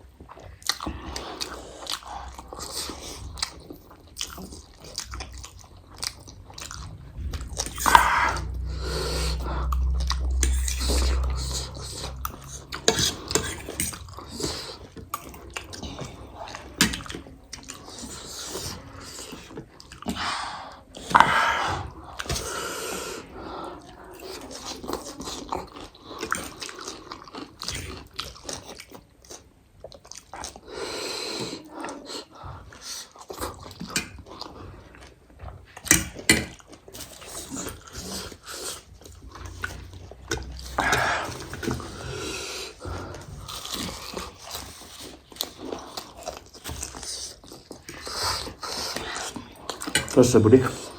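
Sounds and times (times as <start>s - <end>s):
chewing noodles and chicken: 0.0s - 50.9s.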